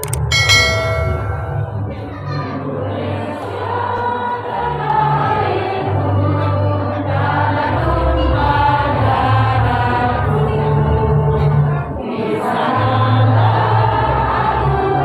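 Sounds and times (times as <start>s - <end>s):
women's choir singing: 1.5s - 15.0s.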